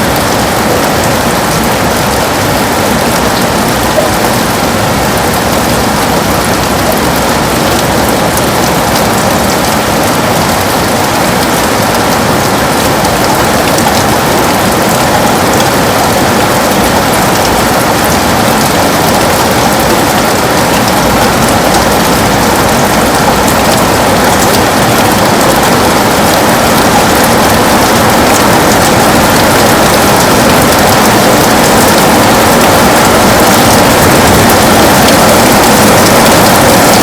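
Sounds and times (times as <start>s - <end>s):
heavy rain on a window: 0.0s - 37.0s.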